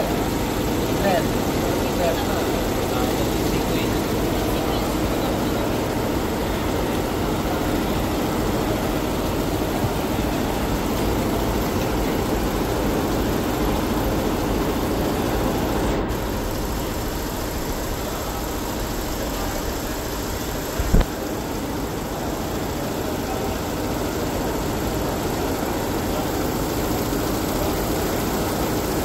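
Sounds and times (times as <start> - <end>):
embroidery machine whirring: 0.0 - 29.0.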